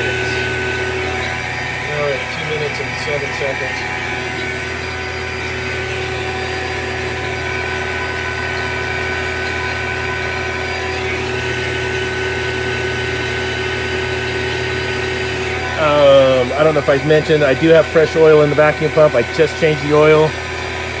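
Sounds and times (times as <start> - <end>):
vacuum pump humming: 0.0 - 21.0.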